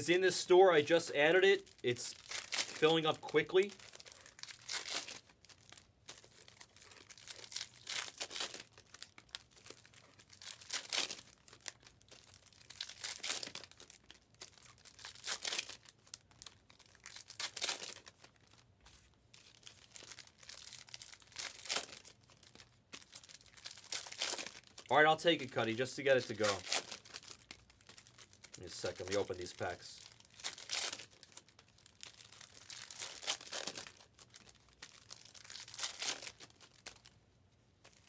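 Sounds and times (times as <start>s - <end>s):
foil wrappers crinkling and tearing: 0.0s - 37.2s, 37.8s - 38.0s.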